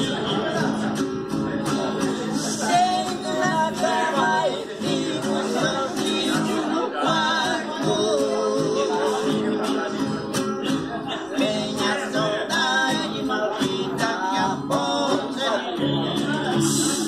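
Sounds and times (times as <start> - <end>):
acoustic guitar: 0.0 - 17.0
two men singing together: 1.6 - 17.0.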